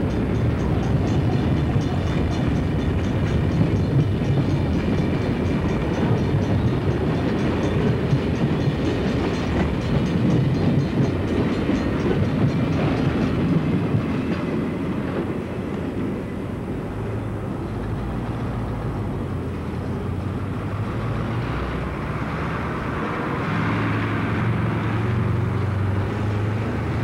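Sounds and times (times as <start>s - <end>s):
clickety-clack over rail joints: 0.0s - 27.0s
freight train wheels rumbling on rails: 0.0s - 27.0s.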